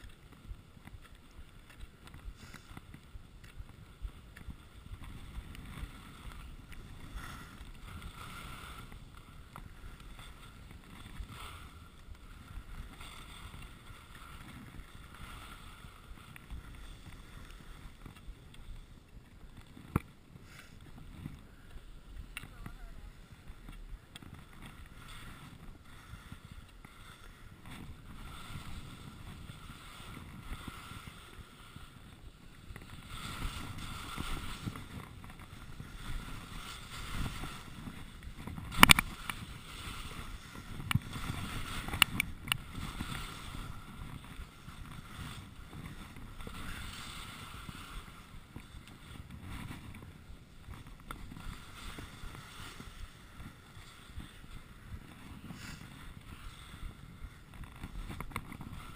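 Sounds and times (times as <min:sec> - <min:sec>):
skis scraping over snow: 0:00.0 - 0:58.9
wind on microphone: 0:00.0 - 0:58.9.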